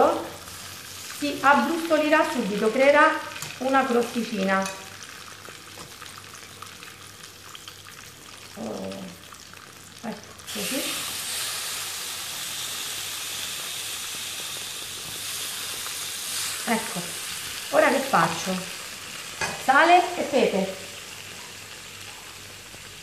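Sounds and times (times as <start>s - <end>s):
meat sizzling in hot oil: 0.0s - 23.0s.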